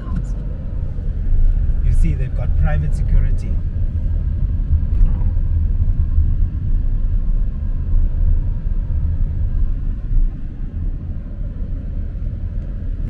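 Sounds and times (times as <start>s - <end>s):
road noise: 0.0s - 13.0s
wind noise: 0.0s - 13.0s.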